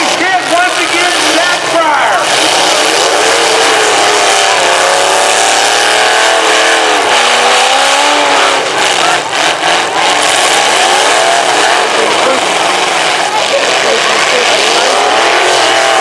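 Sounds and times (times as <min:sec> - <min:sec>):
car engines revving loudly: 0:00.0 - 0:16.0.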